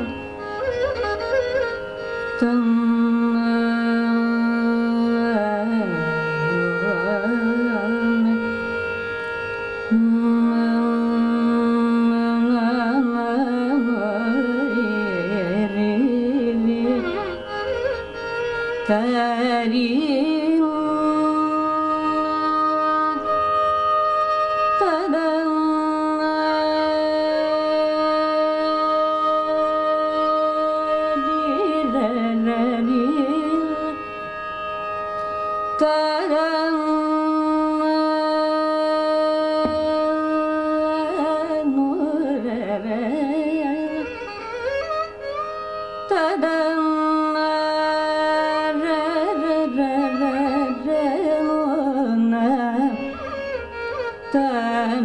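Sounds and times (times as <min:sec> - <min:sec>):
violin: 0:00.0 - 0:55.0
woman singing: 0:02.4 - 0:09.0, 0:09.8 - 0:18.0, 0:18.8 - 0:34.4, 0:35.7 - 0:44.9, 0:46.0 - 0:55.0.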